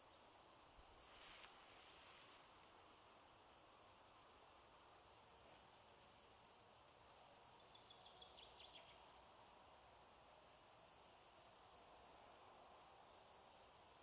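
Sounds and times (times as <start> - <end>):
faint woodland ambience: 0.0 - 14.0.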